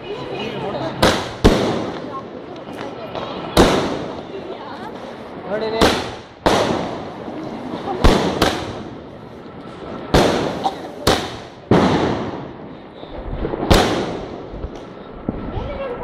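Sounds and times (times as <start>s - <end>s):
firework bangs: 0.9s - 9.2s, 9.8s - 16.0s.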